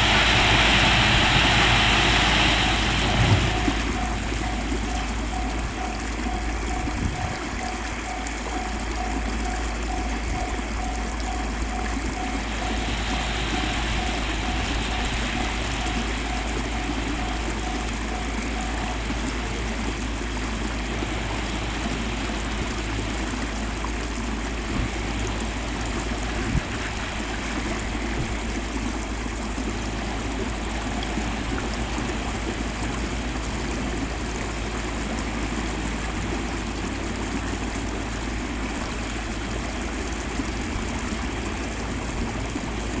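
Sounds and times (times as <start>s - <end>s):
ballast pouring rush: 0.0s - 43.0s
low engine rumble: 0.0s - 43.0s.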